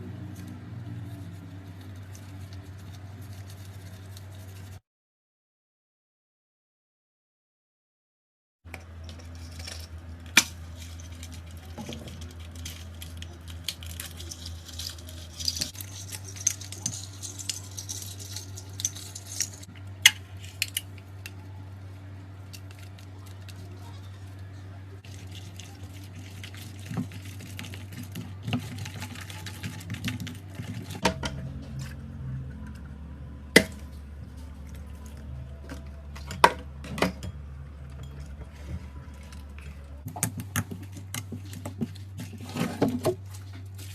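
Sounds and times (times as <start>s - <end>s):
low hum: 8.7s - 43.9s.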